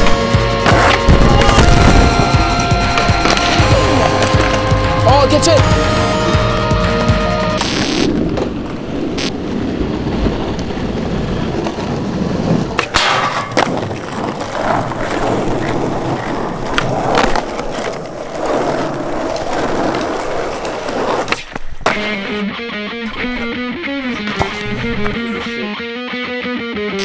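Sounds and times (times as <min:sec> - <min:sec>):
skateboard striking ground: 0:00.0 - 0:25.6
skateboard wheels rolling on asphalt: 0:00.0 - 0:25.6.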